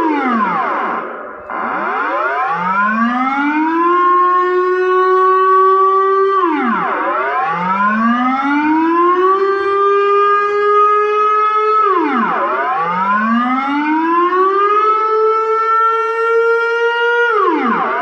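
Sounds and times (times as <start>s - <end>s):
air raid siren wailing: 0.0s - 18.0s.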